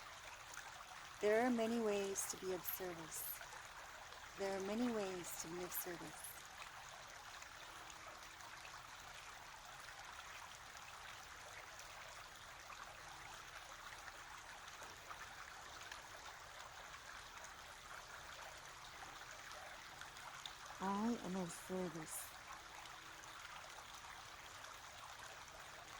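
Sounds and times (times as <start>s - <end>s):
steady trickling hiss: 0.0s - 25.9s.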